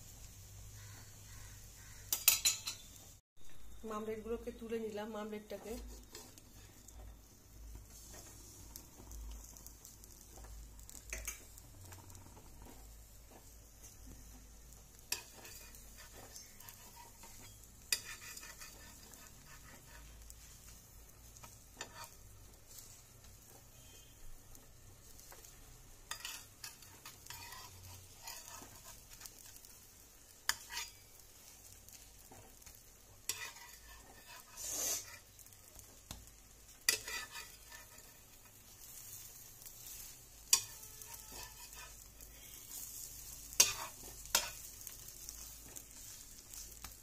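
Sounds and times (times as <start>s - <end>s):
omelette sizzling: 0.0s - 47.0s
metal spatula scraping a pan: 0.8s - 3.1s, 5.5s - 7.2s, 7.8s - 47.0s.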